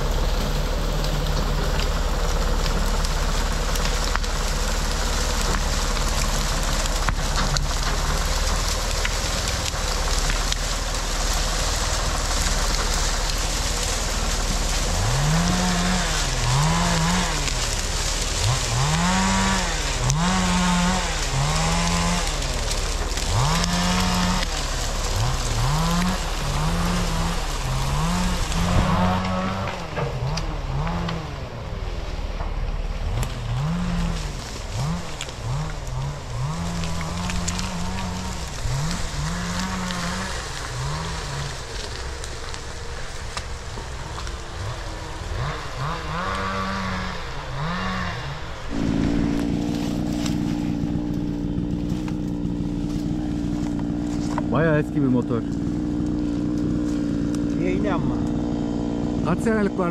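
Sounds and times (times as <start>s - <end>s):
chainsaw engine revving: 0.0s - 59.9s.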